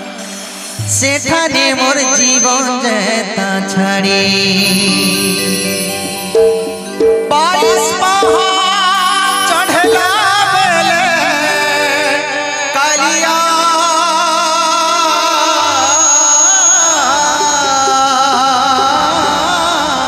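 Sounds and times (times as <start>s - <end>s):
devotional music with wavering melody: 0.0s - 20.0s.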